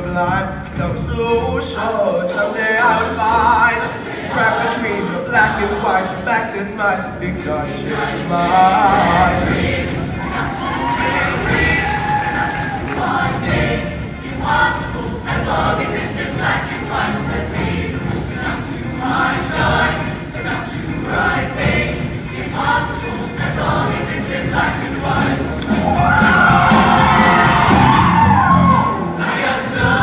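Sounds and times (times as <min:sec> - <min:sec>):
instrumental accompaniment with beat: 0:00.0 - 0:30.0
choir singing: 0:01.2 - 0:30.0.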